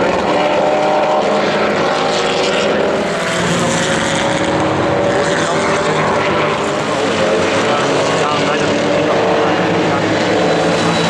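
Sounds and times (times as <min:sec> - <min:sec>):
racing car engines droning: 0:00.0 - 0:11.0.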